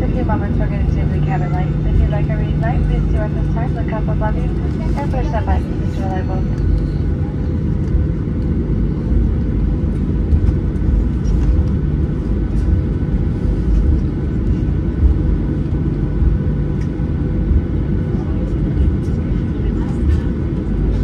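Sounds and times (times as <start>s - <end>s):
aircraft cabin rumble: 0.0s - 21.0s
constant hum: 0.0s - 21.0s.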